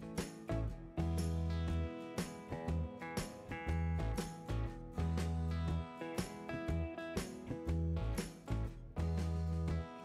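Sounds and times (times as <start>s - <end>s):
plucked notes over bass line: 0.0s - 10.0s.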